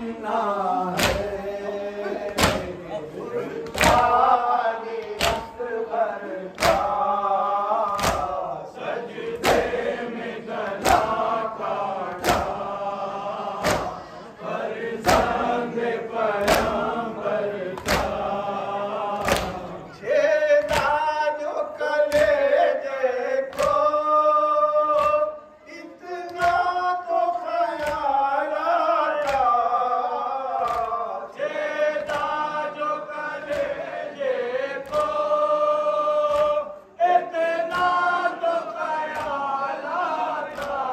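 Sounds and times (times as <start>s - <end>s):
men chanting together: 0.0s - 40.9s.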